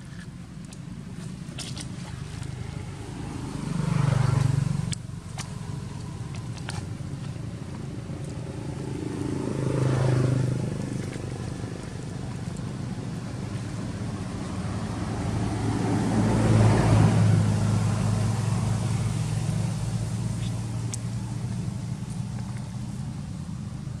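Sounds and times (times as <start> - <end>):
vehicle engine passing by: 1.2 - 24.0.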